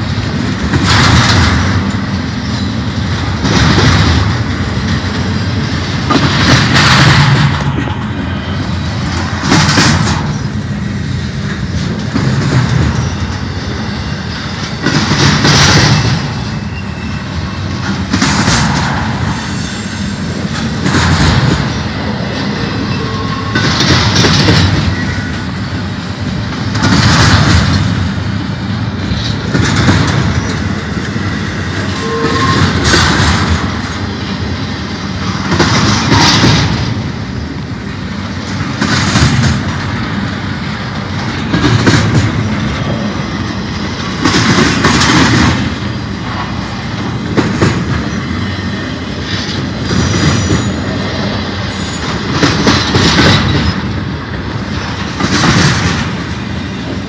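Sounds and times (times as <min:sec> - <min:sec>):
freight train wheels clacking: 0:00.0 - 0:57.0.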